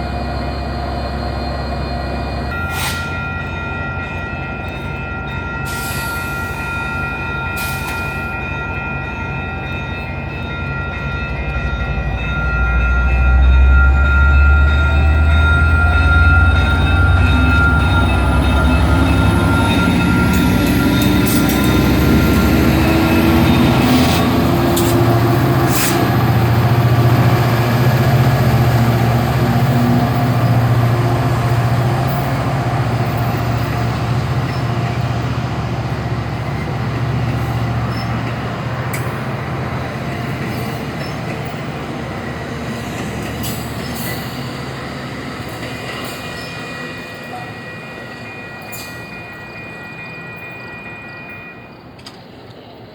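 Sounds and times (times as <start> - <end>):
train rumbling: 0.0 - 52.9
wheels clanking on rails: 6.9 - 50.6.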